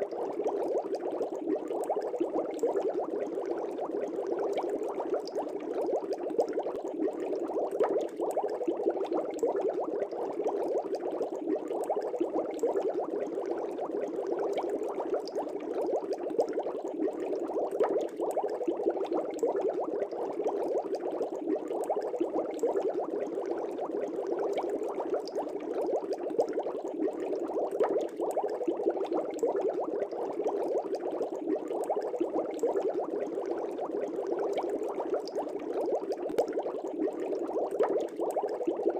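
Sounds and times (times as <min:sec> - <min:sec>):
aquarium air bubbling: 0:00.0 - 0:38.9.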